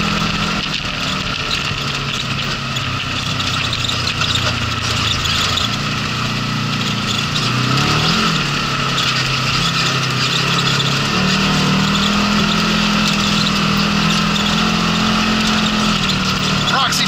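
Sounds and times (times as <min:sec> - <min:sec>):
engine revving while driving: 0:00.0 - 0:17.0.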